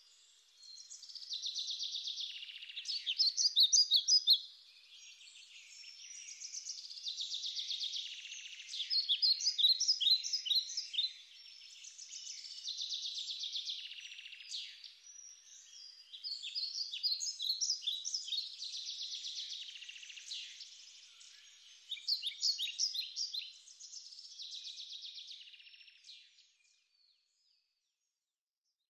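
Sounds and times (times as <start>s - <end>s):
songbirds chirping and trilling: 0.0s - 28.2s.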